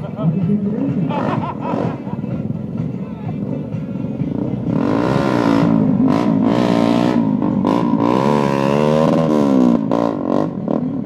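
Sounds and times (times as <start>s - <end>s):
motorcycle engine revving: 0.4s - 2.6s, 3.4s - 11.0s.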